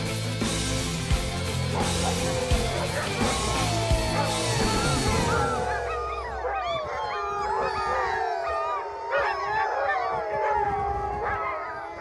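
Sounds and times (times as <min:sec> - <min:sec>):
sled dogs howling: 0:01.7 - 0:12.0.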